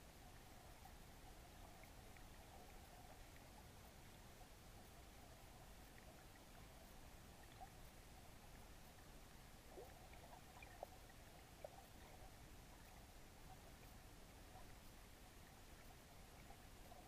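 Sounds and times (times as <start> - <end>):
faint underwater ambience: 0.0 - 17.0.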